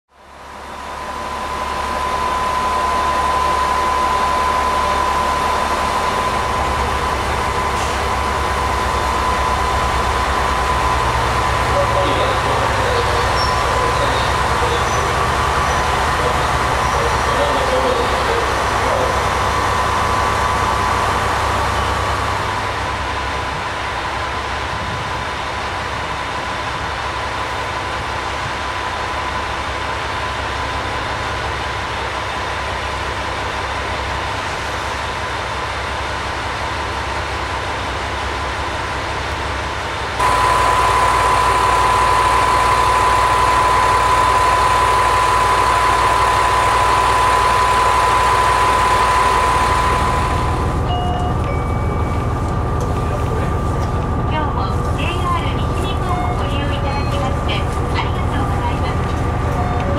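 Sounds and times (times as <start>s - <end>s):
diesel railcar engine idling: 0.1s - 59.9s
high engine whine: 0.1s - 59.9s.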